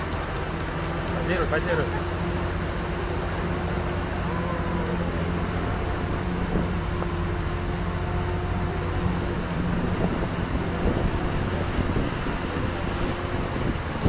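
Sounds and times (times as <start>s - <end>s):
motorboat engine humming: 0.0s - 14.0s
rushing water and air: 0.0s - 14.0s.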